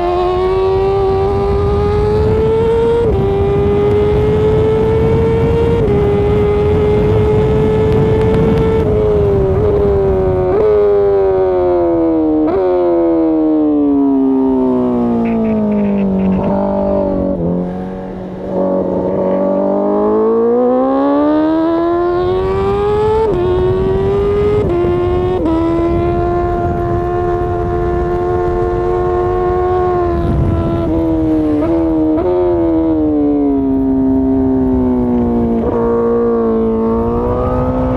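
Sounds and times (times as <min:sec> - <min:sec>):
motorcycle engine shifting gears: 0:00.0 - 0:37.9.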